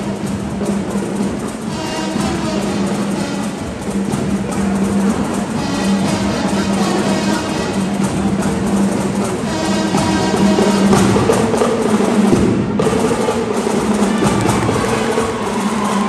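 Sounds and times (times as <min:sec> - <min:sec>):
brass horns: 0:00.0 - 0:13.0
drums: 0:00.0 - 0:16.0.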